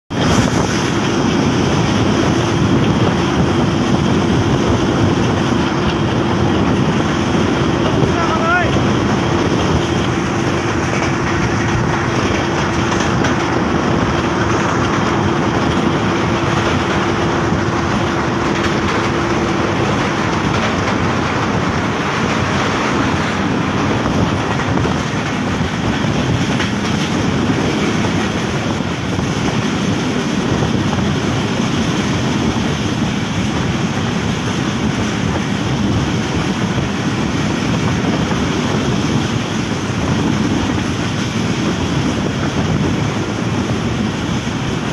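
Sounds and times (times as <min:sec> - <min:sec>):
commuter train running: 0:00.0 - 0:44.9.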